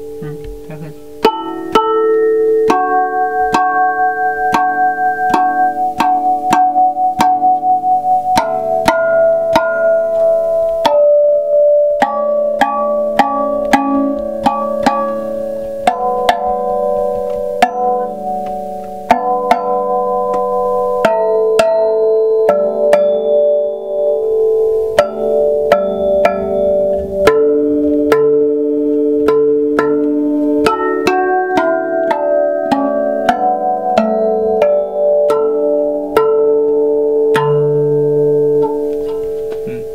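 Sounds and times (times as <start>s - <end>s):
tongue drum melody: 0.0s - 39.9s.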